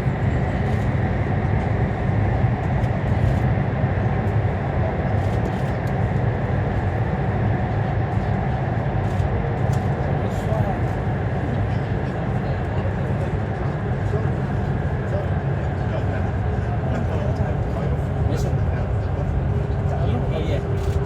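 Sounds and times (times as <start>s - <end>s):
high-speed train rumble inside car: 0.0s - 21.0s.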